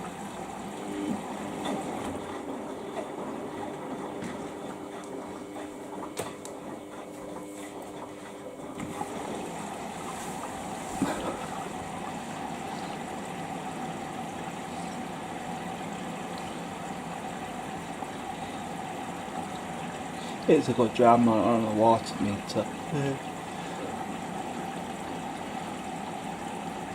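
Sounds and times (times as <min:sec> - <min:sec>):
low machine hum: 0:00.0 - 0:26.9
water rushing into washing machine: 0:00.0 - 0:26.9.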